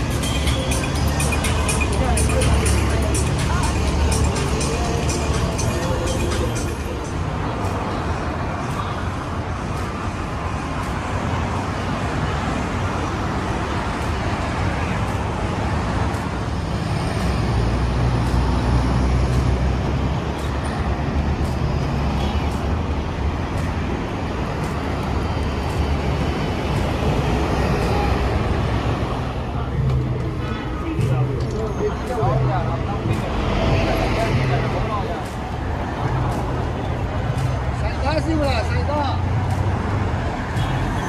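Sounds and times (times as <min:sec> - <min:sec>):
engine rumble: 0:00.0 - 0:41.0
heavy vehicle passing: 0:00.0 - 0:41.0
road traffic noise: 0:00.0 - 0:41.0.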